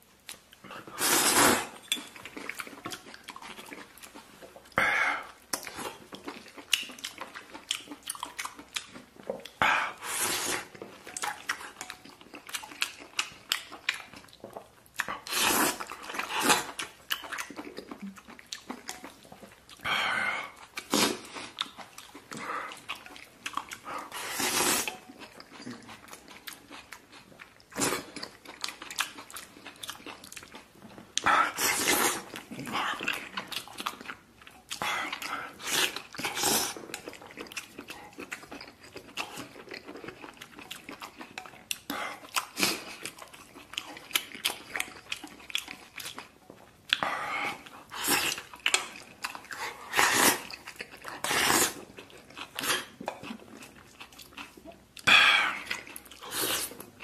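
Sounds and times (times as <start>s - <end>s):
person chewing: 0.2s - 57.0s.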